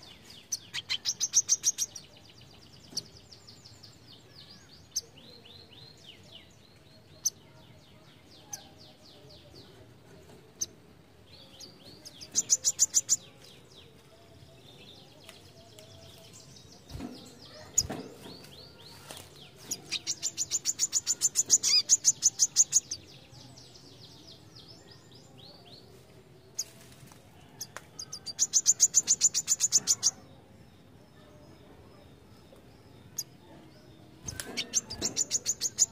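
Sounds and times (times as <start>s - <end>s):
bird chirping trills: 0.0s - 9.8s, 10.5s - 26.8s, 27.9s - 35.9s.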